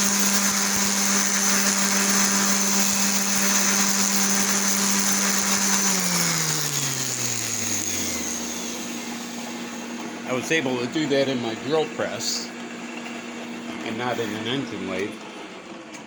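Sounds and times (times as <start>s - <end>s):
orbital sander running: 0.0s - 15.1s.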